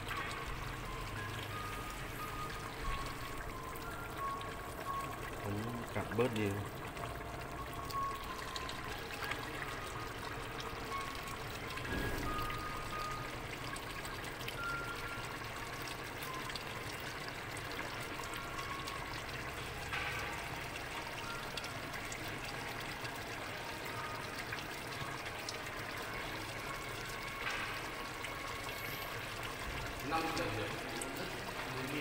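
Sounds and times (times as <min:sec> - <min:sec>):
stew bubbling in a pot: 0:00.0 - 0:32.0.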